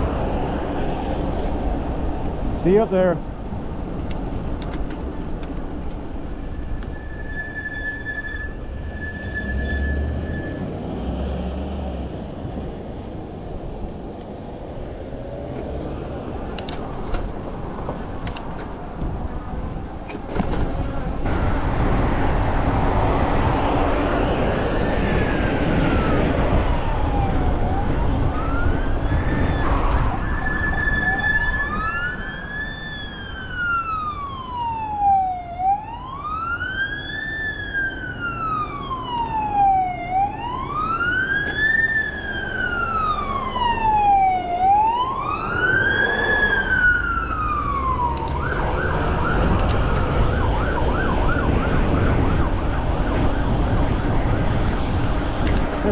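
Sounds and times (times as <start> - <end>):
road and tyre noise: 0.0 - 55.9
emergency vehicle siren wailing: 6.1 - 55.9.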